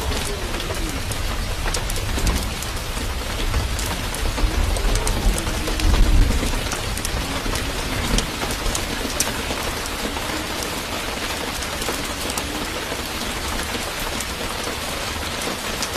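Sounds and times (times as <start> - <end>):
rain hiss: 0.0 - 15.9
raindrop ticks: 0.0 - 15.9.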